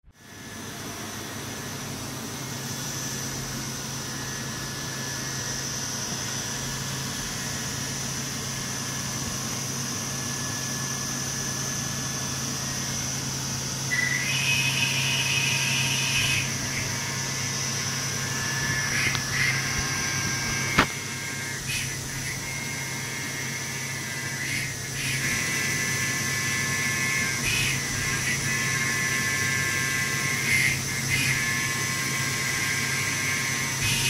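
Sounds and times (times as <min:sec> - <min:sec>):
machine hum and whine: 0:00.0 - 0:34.0
higher-pitched whine: 0:00.1 - 0:34.0.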